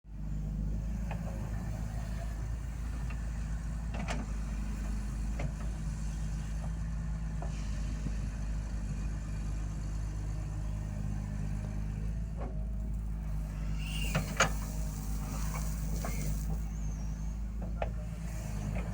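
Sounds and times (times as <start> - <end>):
diesel engine running: 0.1 - 18.9.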